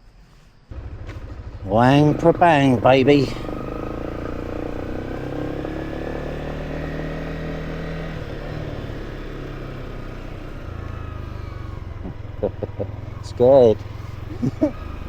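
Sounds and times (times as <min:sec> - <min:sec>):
motorcycle engine running: 0:00.7 - 0:15.0.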